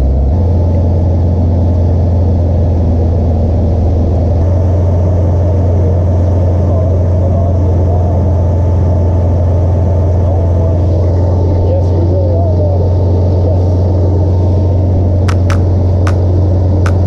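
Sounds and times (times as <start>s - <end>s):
engine low drone: 0.0s - 17.0s.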